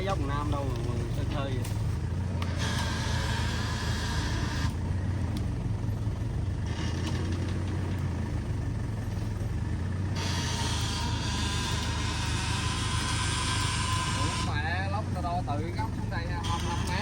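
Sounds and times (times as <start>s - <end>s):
large engine humming: 0.0s - 17.0s.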